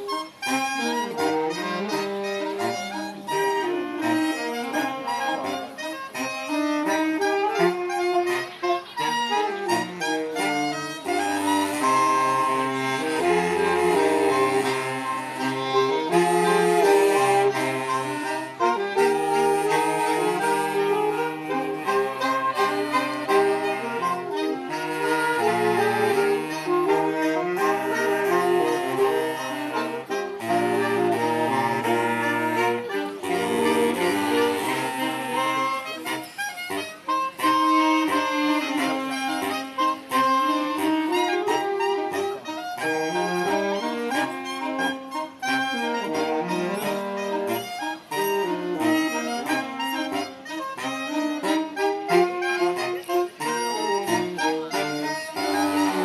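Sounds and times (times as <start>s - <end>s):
folk music on reed instruments: 0.0s - 56.0s.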